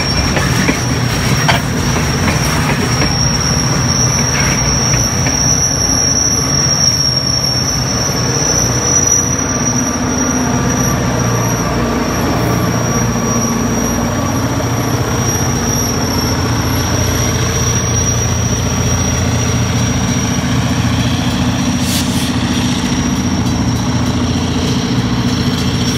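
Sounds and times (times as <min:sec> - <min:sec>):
diesel locomotive engines running: 0:00.0 - 0:25.9
high-pitched squeal: 0:00.0 - 0:25.9
wheels rumbling on rail: 0:00.0 - 0:25.9.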